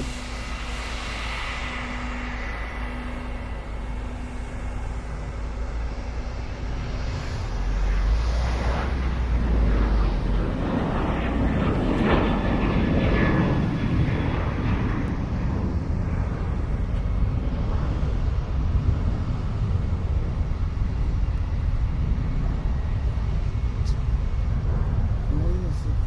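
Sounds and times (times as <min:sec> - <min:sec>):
jet engines passing: 0:00.0 - 0:26.0.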